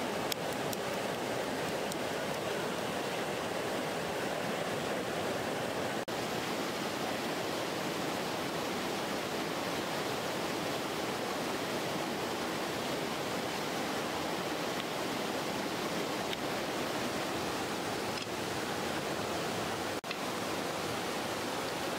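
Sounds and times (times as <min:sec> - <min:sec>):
river rushing over stones: 0:00.0 - 0:21.9.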